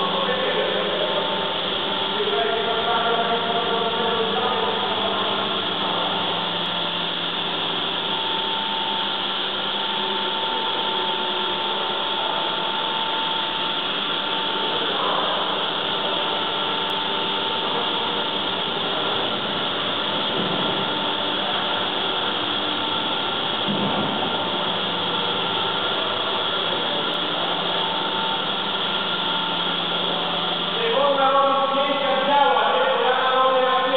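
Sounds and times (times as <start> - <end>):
humidifier whirring hiss: 0.0 - 33.9
thin steady whine: 0.0 - 33.9.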